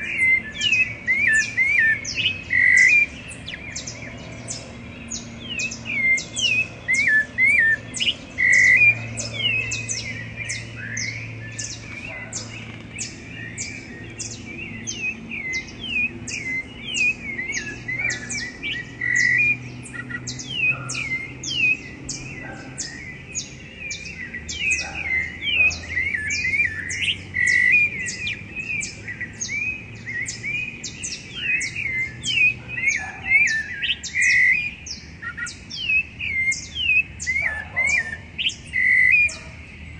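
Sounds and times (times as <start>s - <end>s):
thrushes singing: 0.0s - 39.9s.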